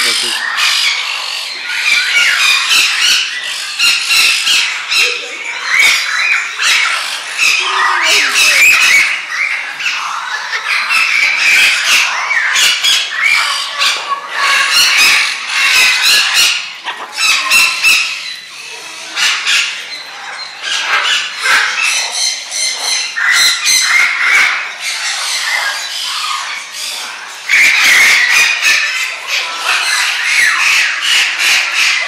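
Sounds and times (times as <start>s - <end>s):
birds squawking and screeching: 0.0s - 32.0s.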